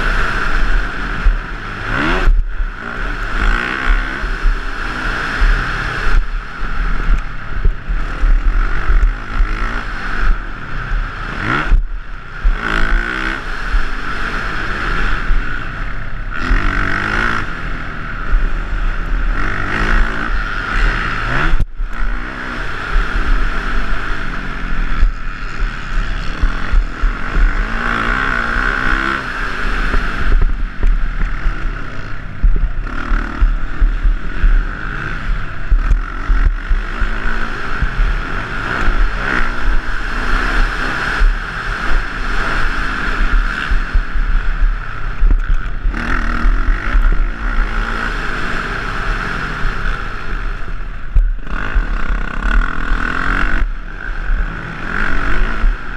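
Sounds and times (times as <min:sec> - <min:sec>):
dirt bike engine revving: 0:00.0 - 0:55.9
wind rumble on microphone: 0:00.0 - 0:55.9.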